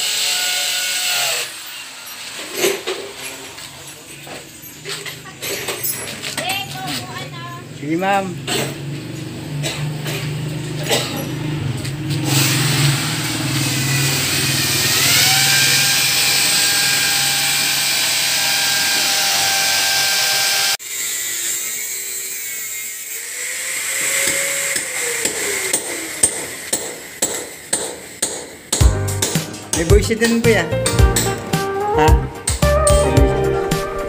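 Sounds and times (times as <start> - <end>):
power tool whining: 0.0 - 27.7.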